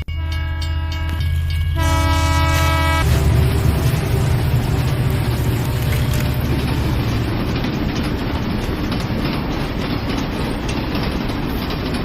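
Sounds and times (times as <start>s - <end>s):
train rumbling with wheel clatter: 0.0s - 12.0s.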